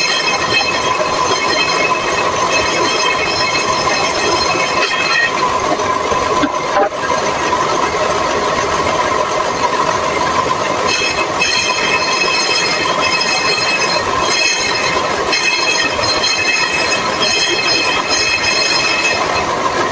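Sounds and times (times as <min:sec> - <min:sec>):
table saw blade whining: 0:00.0 - 0:07.3, 0:10.6 - 0:19.9.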